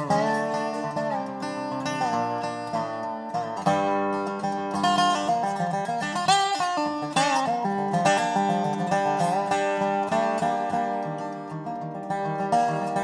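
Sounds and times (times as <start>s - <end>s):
guitar: 0.0s - 13.0s
picked banjo: 0.0s - 13.0s.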